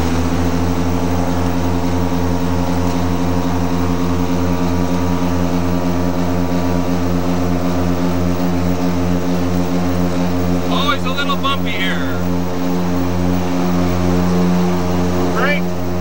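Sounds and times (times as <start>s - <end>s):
light plane engine at full power: 0.0s - 16.0s.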